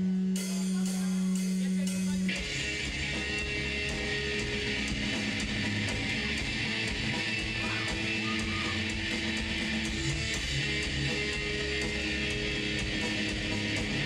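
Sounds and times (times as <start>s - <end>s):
death metal band playing live: 0.0s - 14.0s
electric guitars: 0.0s - 14.0s.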